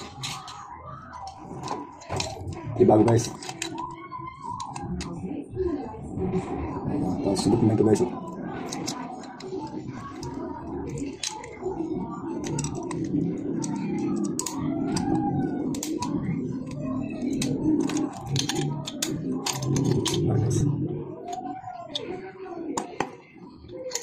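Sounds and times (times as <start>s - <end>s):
low background murmur: 0.0s - 24.0s.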